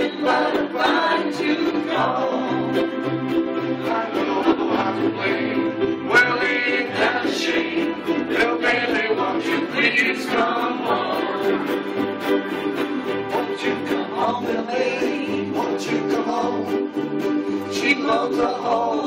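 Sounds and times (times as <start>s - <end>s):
many voices singing along: 0.0s - 19.0s
ukuleles strummed in rhythm: 0.0s - 19.0s.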